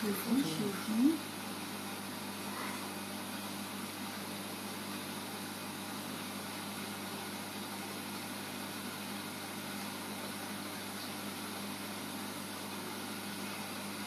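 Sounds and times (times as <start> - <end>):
aquarium pumps humming: 0.0 - 14.0.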